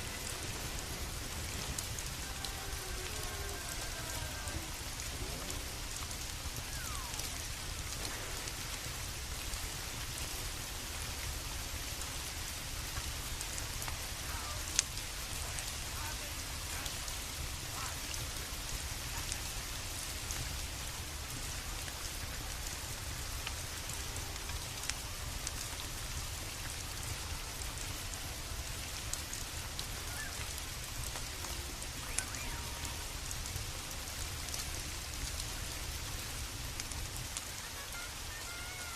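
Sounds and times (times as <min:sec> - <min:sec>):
sharp crackles and ticks: 0:00.0 - 0:38.9
steady rain falling: 0:00.0 - 0:38.9.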